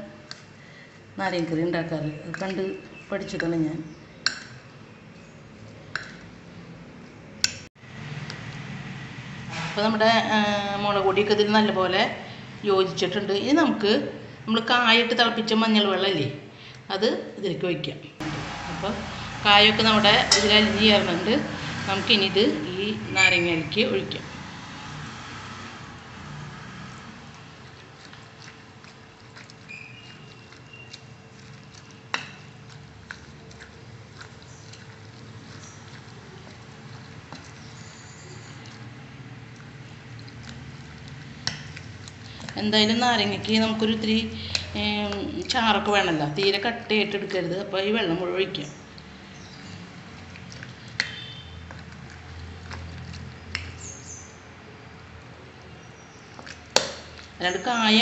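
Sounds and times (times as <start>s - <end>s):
spoon stirring wet mixture: 0.0s - 9.0s, 18.2s - 58.0s.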